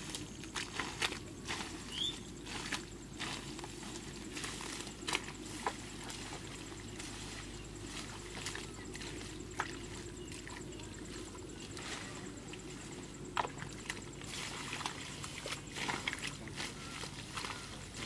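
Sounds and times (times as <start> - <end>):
hands squelching in wet mud: 0.0 - 18.0
low background noise: 0.0 - 18.0.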